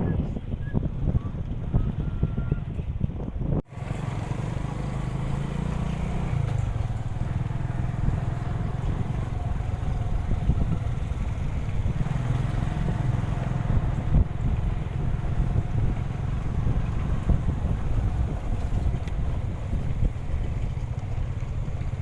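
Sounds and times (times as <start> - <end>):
wind buffeting microphone: 0.0 - 22.0
motorcycle engine running: 0.8 - 22.0.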